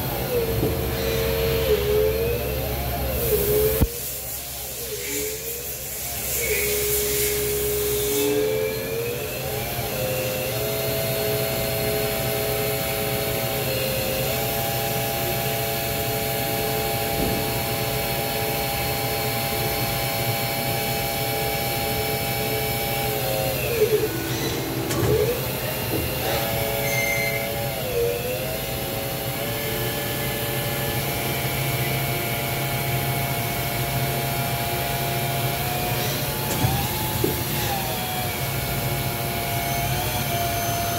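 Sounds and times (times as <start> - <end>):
lathe drive whine: 0.0 - 40.9.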